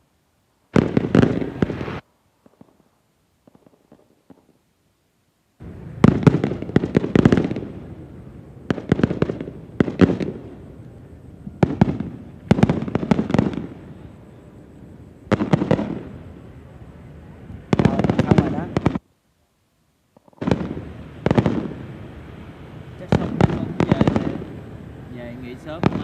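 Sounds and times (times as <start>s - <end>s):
fireworks bangs: 0.7s - 4.6s, 5.6s - 19.0s, 20.1s - 26.0s.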